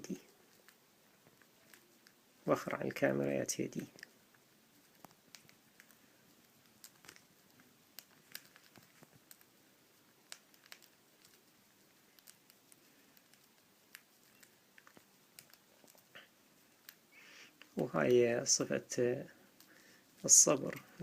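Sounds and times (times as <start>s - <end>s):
faint clicks and taps: 0.0s - 3.0s, 3.8s - 18.2s.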